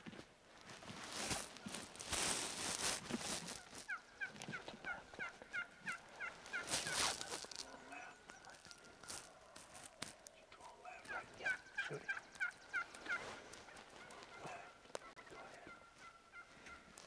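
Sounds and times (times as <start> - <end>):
turkeys gobbling: 2.2 - 17.0.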